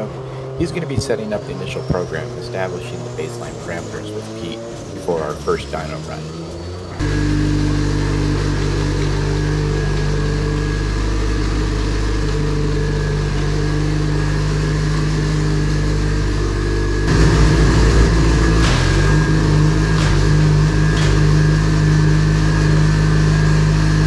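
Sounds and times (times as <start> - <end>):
engine idling: 0.0 - 24.0
thin steady whine: 0.0 - 24.0.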